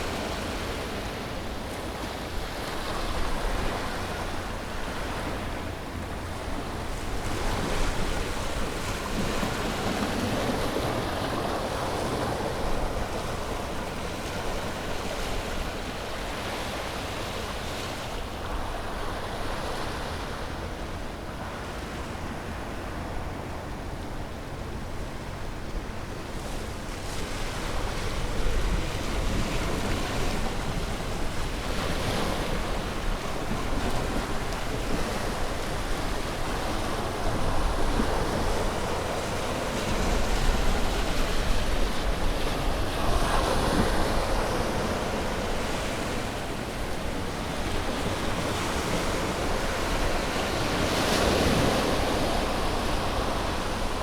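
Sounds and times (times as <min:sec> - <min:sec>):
ocean waves breaking on beach: 0:00.0 - 0:54.0
wind rumble on microphone: 0:00.0 - 0:54.0.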